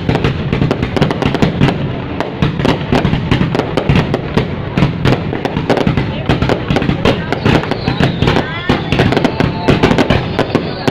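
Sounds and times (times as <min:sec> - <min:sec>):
fireworks bangs: 0:00.0 - 0:10.9
fireworks crackling: 0:00.0 - 0:10.9.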